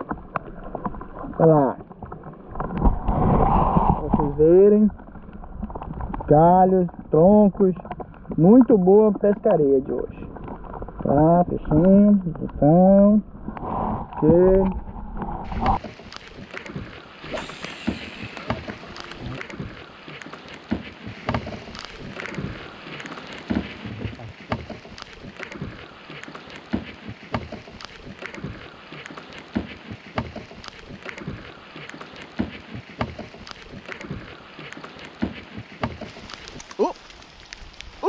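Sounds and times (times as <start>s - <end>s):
rain falling on water: 0.0s - 3.0s, 3.8s - 13.3s, 15.4s - 38.0s
raindrops tapping on kayak: 0.0s - 38.0s.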